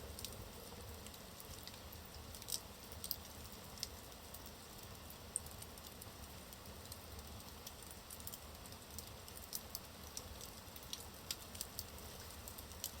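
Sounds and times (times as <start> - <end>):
fire hissing and rumbling: 0.0 - 13.0
logs crackling and popping: 0.0 - 13.0.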